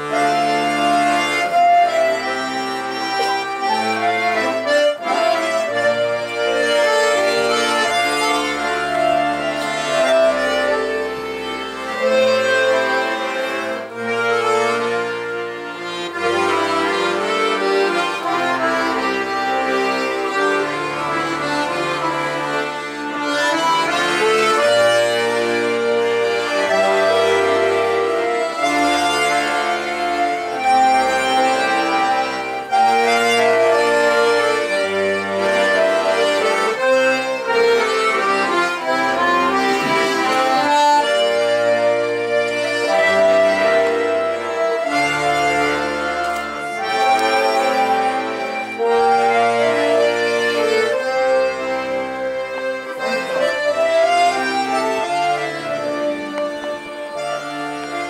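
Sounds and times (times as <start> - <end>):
button accordions playing a waltz: 0.0 - 58.0.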